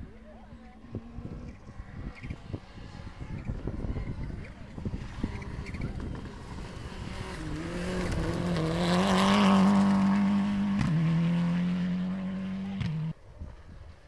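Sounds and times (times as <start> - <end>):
rally car engine passing: 0.0 - 13.7.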